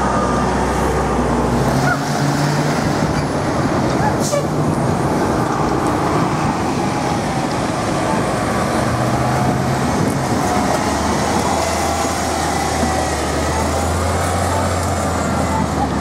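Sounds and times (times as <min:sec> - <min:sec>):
buses driving past: 0:00.0 - 0:16.0
street traffic noise: 0:00.0 - 0:16.0.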